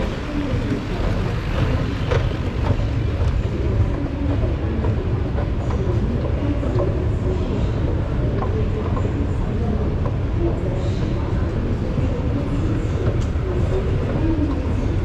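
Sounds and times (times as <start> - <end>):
underground station rumble: 0.0 - 15.0.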